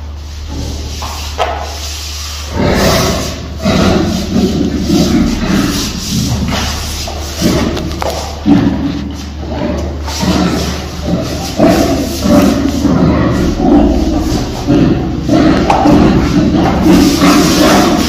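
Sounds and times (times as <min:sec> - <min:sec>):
steady low hum: 0:00.0 - 0:18.0
low gorilla vocalizations: 0:02.5 - 0:18.0.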